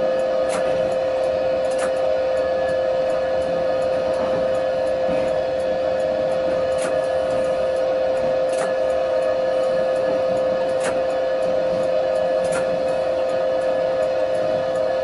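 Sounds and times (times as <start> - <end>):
tram equipment whine: 0.0 - 15.0
faint sharp ticks: 0.1 - 15.0.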